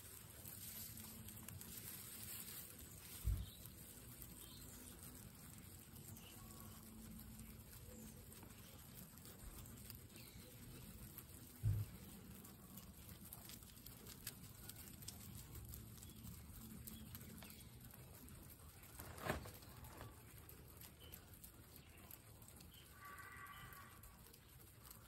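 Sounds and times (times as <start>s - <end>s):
guinea pigs chewing grass: 0.0s - 25.0s
rustling: 0.0s - 25.0s.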